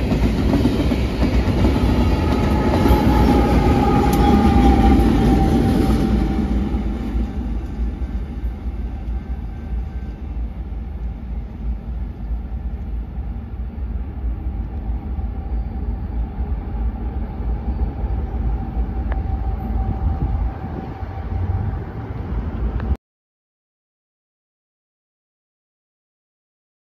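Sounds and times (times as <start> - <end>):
freight train passing: 0.0 - 23.0
steady low rumble: 0.0 - 23.0.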